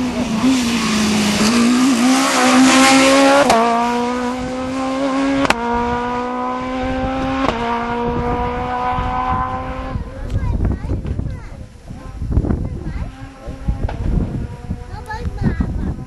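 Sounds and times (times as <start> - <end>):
rally car engine accelerating: 0.0 - 10.2, 11.9 - 15.0.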